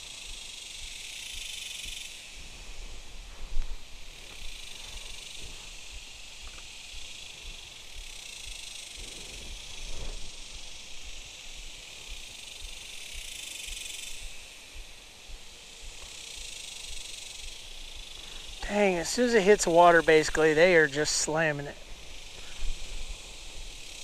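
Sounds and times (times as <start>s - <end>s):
insects hissing in trees: 0.0s - 24.0s.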